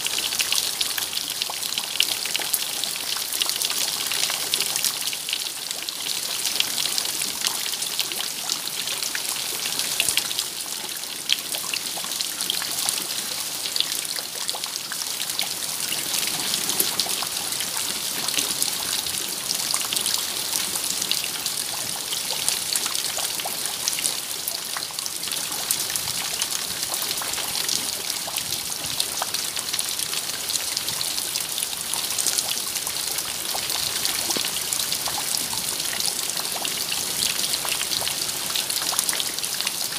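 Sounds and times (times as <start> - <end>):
raindrops pattering and ticking: 0.0 - 39.9
steady rain falling: 0.0 - 39.9.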